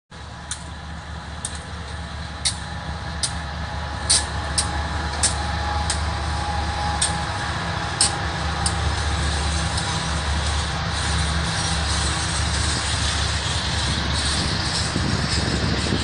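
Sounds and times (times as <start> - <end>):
locomotive engine rumble: 0.1 - 16.0
wheels clicking on track: 0.2 - 16.0.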